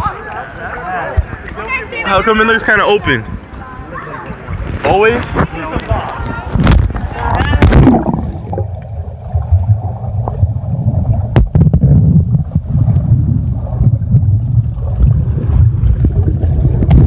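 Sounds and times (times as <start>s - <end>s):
muffled water and wind rumble: 3.0s - 17.0s.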